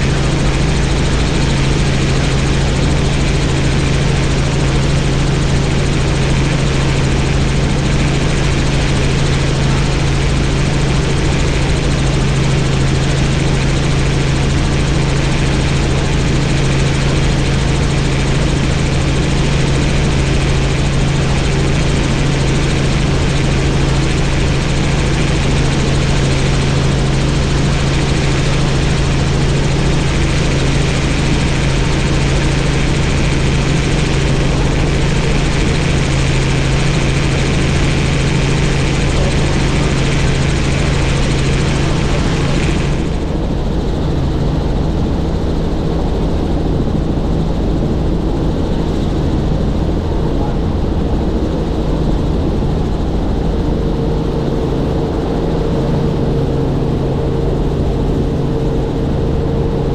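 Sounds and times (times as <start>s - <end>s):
helicopter engine and rotors: 0.0s - 59.9s.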